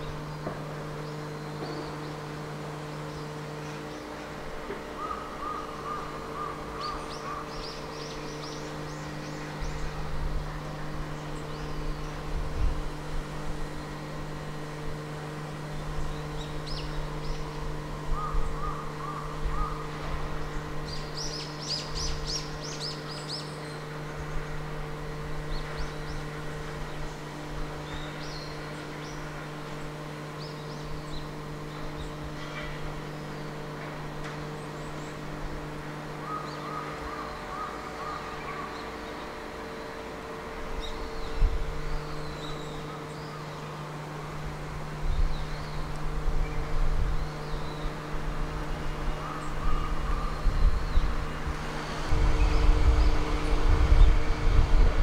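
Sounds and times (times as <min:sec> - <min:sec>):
small birds chirping: 0:00.0 - 0:13.0, 0:13.6 - 0:54.5
low machine hum: 0:00.0 - 0:55.0.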